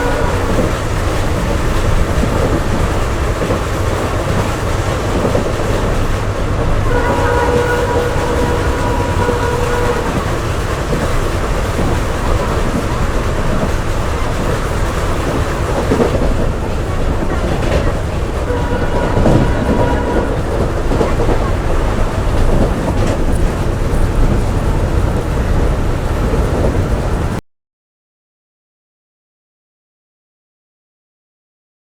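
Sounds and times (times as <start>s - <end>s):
train wheels rumbling on track: 0.0s - 27.4s.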